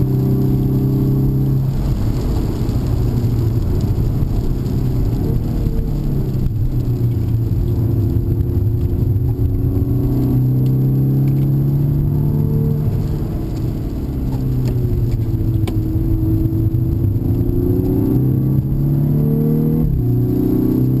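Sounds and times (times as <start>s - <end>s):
car engine heard from inside cabin: 0.0s - 21.0s.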